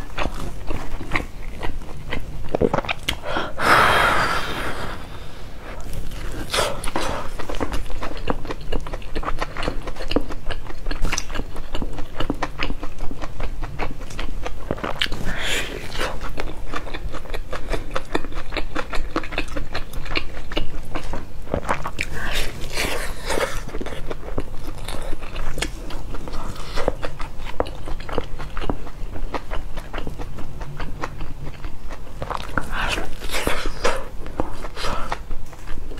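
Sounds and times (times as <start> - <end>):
biting and chewing flatbread: 0.0 - 3.2, 5.8 - 35.9.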